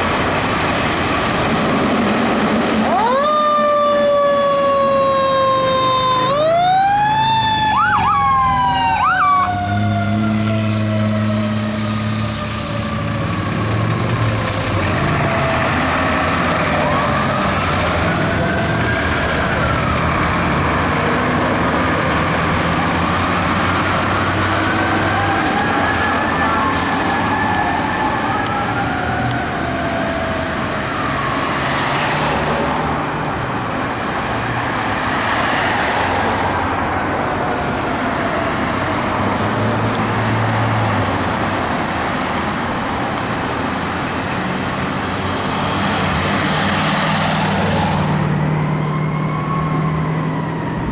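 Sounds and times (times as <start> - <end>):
heavy truck engines rumbling: 0.0 - 50.9
sirens wailing: 0.0 - 50.9
traffic: 0.0 - 50.9.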